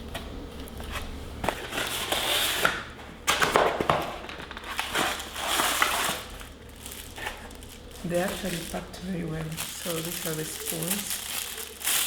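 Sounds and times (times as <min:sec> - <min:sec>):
packaging crinkling and rustling: 0:00.6 - 0:12.0.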